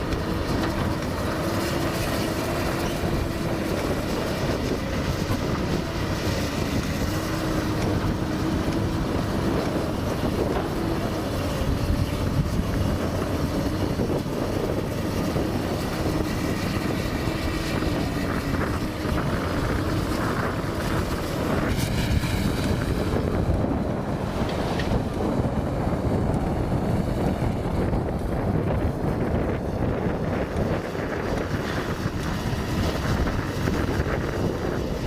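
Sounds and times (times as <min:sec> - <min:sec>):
excavator diesel engine running: 0:00.0 - 0:35.0
wind buffeting microphone: 0:00.0 - 0:35.0.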